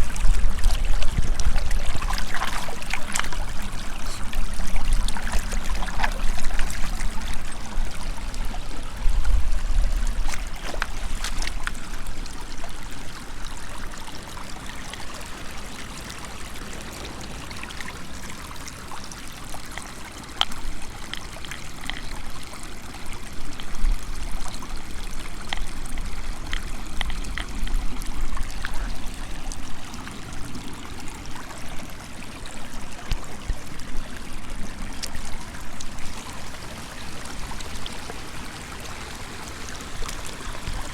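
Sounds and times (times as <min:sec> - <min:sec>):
water running in a stream: 0:00.0 - 0:40.9.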